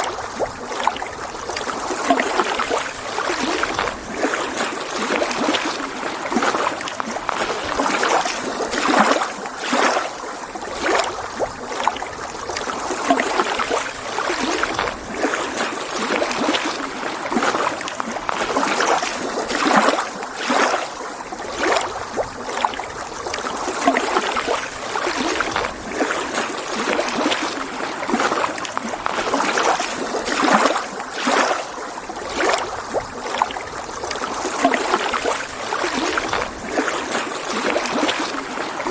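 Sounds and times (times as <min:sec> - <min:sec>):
lake waves lapping on shore: 0:00.0 - 0:38.9.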